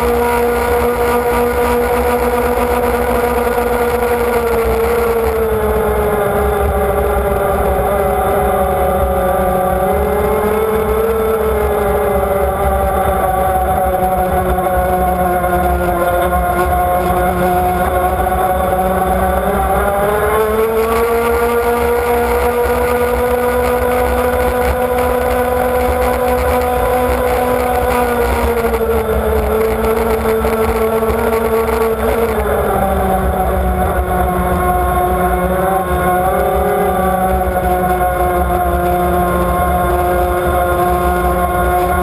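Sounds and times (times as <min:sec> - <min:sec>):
powerboat engine at speed: 0:00.0 - 0:42.0.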